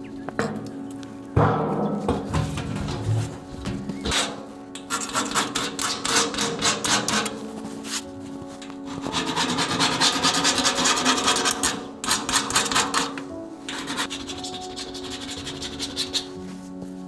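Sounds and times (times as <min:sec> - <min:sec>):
background music: 0:00.0 - 0:17.0
hand tool scraping hard surface: 0:01.6 - 0:16.4.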